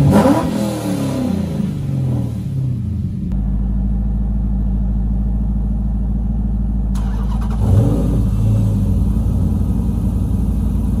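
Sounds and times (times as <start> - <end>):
car engine idling: 1.2 - 11.0.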